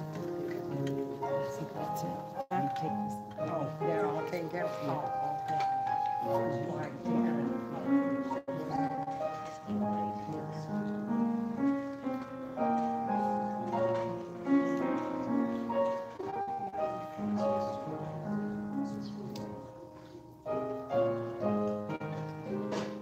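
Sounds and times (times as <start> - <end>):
grand piano playing slow music: 0.0 - 23.0.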